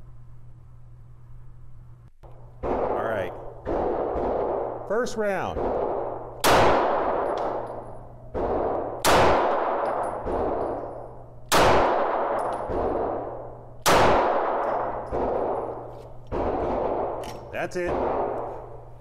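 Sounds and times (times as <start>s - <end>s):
quieter bangs: 2.2s - 19.0s
handgun shots echoing: 2.6s - 18.7s.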